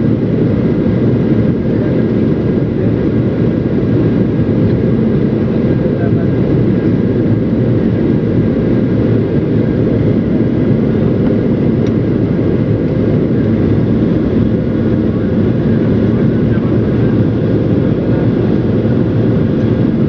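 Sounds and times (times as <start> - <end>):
airliner engines rumbling: 0.0 - 20.0.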